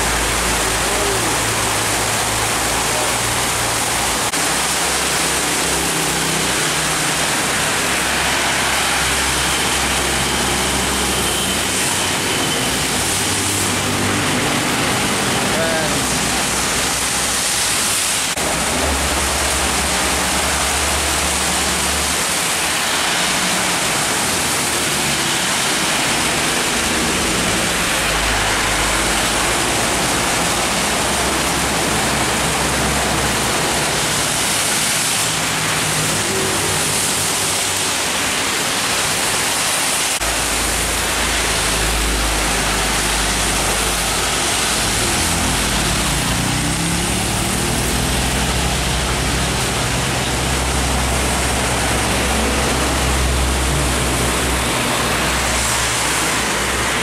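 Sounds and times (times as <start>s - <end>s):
truck diesel engines droning: 0.0s - 39.0s, 40.0s - 57.0s
heavy rain pouring: 0.0s - 57.0s.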